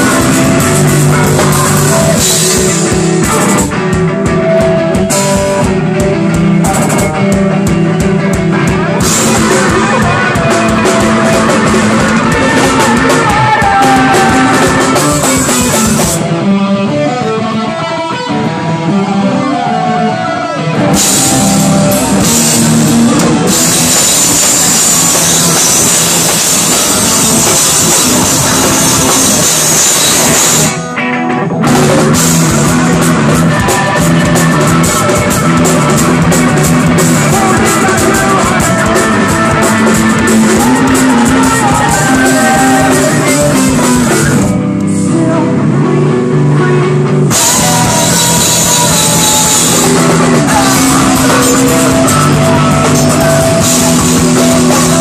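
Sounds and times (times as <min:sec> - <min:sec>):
distorted electric guitars: 0:00.0 - 0:55.0
live rock band playing loud: 0:00.0 - 0:55.0.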